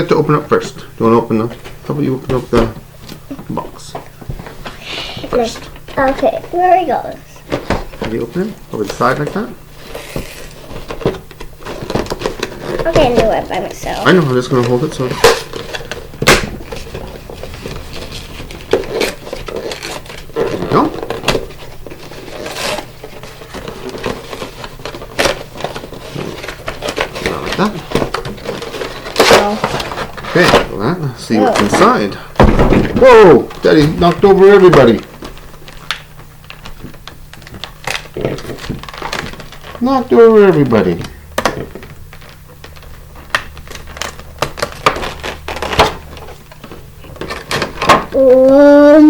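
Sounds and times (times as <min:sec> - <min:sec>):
cardboard and plastic packaging handled: 0:01.3 - 0:49.0.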